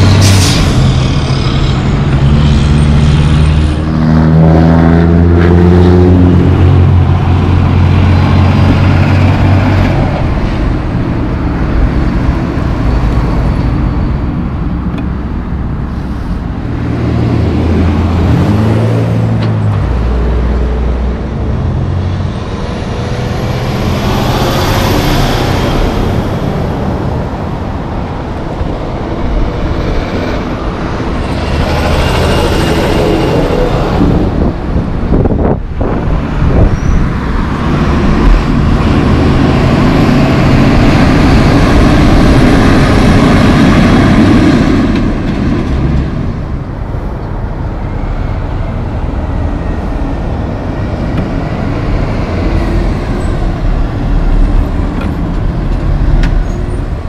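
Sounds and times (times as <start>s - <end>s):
diesel trucks passing: 0.0s - 57.0s
traffic noise: 0.0s - 57.0s.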